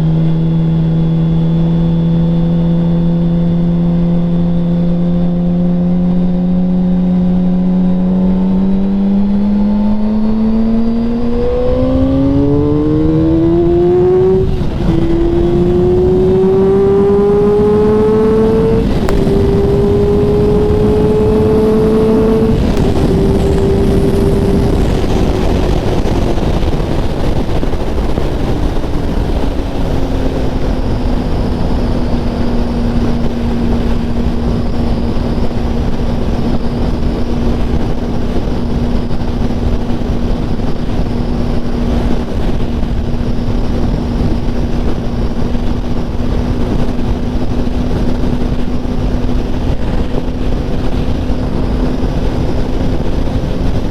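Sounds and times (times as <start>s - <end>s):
motorcycle engine accelerating: 0.0s - 53.9s
wind rushing: 6.8s - 53.9s.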